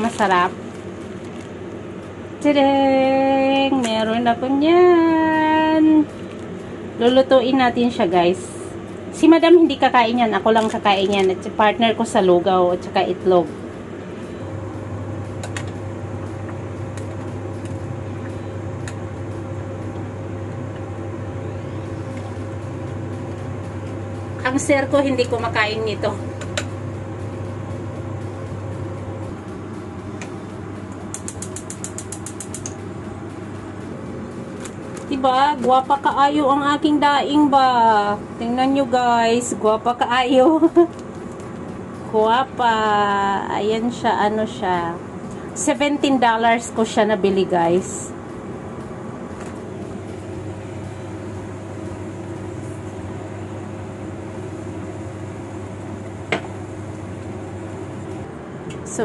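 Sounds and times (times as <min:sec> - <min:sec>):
gas burner noise: 0:00.0 - 0:59.0
low hum: 0:00.0 - 0:59.0.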